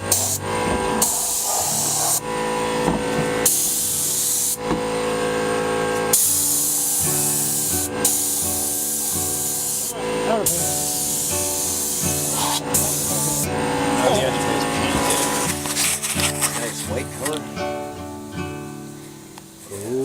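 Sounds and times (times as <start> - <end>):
spray paint hissing: 0.0 - 4.9, 5.9 - 17.2.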